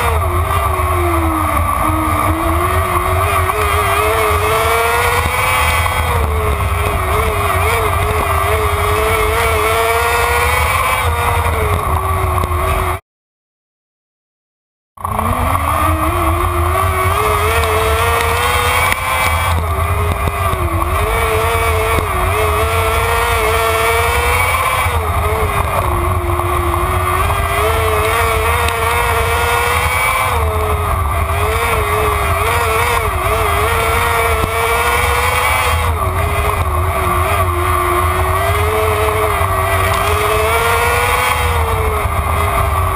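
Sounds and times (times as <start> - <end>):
race car engine revving: 0.0 - 13.0, 15.0 - 42.9.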